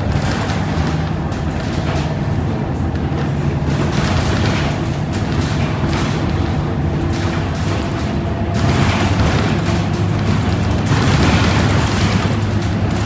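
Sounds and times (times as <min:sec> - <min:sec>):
bus diesel engine droning: 0:00.0 - 0:13.0
road noise: 0:00.0 - 0:13.0.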